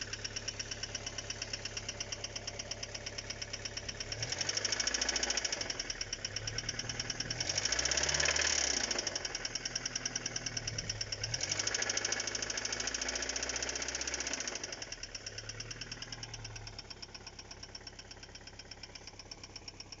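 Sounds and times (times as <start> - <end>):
car engine knocking: 0.0 - 20.0.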